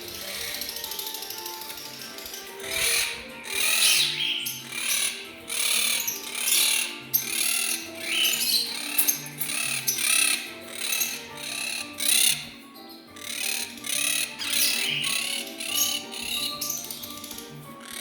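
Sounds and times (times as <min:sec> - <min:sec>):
pet birds squawking: 0:00.0 - 0:18.0.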